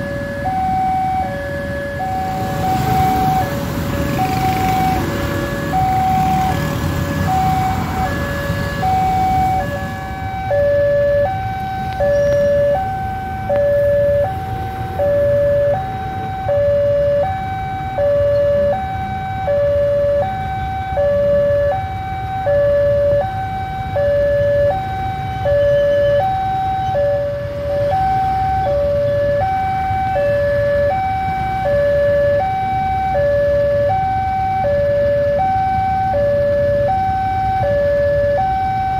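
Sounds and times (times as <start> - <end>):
level crossing two-tone warning signal: 0.0 - 38.9
low traffic rumble: 0.0 - 38.9.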